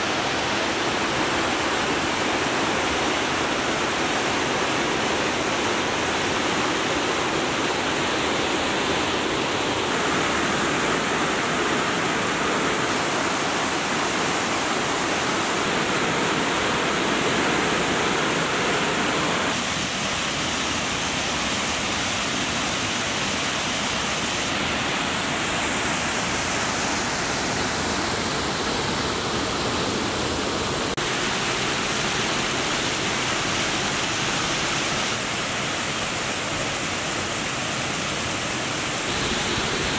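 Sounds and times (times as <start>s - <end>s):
water rushing over waterfalls: 0.0s - 39.9s.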